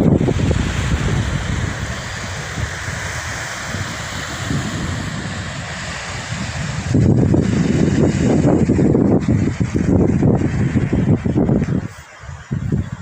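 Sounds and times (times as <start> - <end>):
steady rushing hiss: 0.0 - 13.0
wind buffeting microphone: 0.0 - 13.0.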